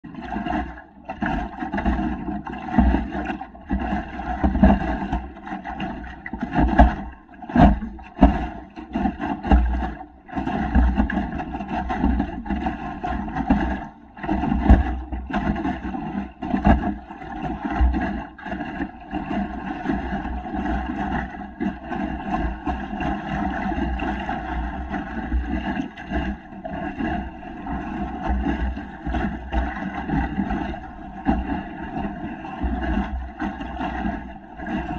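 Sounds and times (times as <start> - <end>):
water slapping wooden hull: 0.0 - 34.9.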